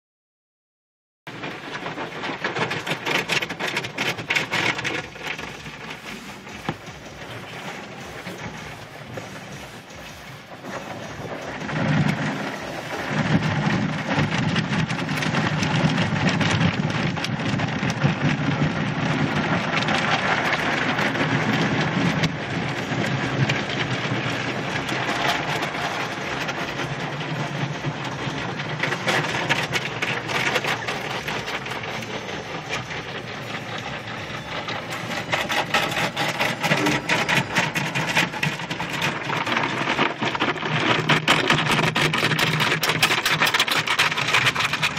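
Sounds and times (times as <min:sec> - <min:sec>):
low rumble: 0:01.3 - 0:42.2
car wash spray and brushes: 0:01.3 - 0:44.9.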